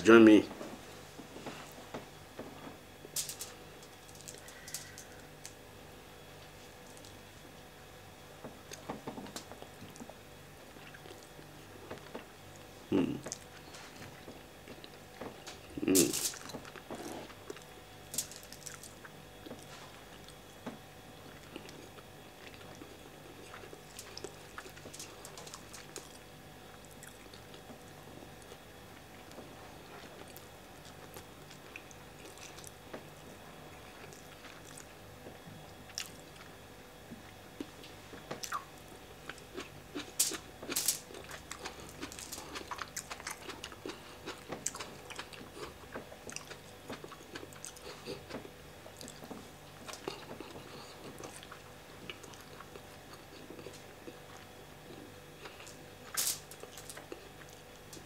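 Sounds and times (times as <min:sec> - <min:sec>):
man chewing with wet smacks: 0:08.4 - 0:17.8, 0:18.5 - 0:58.0.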